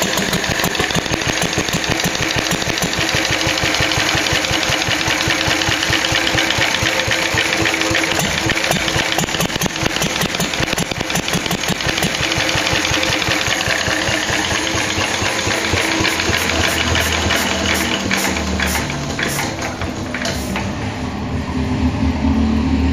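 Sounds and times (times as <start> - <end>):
stationary engine running: 0.0 - 22.9.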